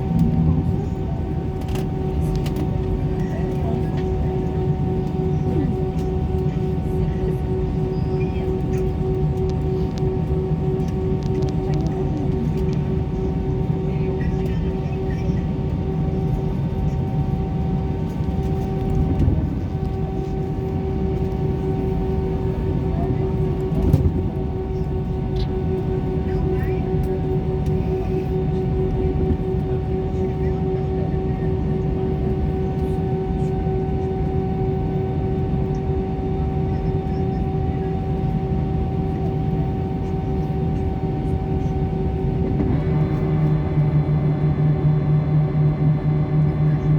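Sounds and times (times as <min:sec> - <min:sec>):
airliner rumble and whine: 0:00.0 - 0:46.9.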